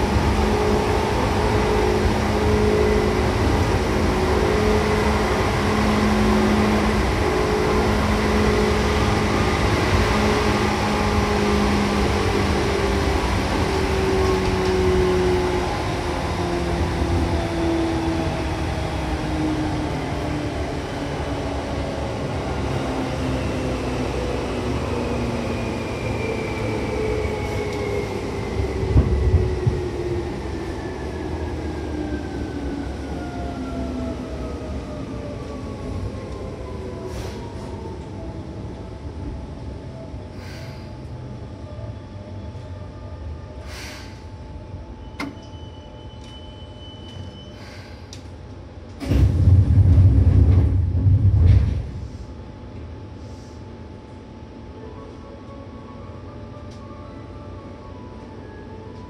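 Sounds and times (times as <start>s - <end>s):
wheels rumbling on rail: 0.0s - 42.9s, 43.6s - 54.7s.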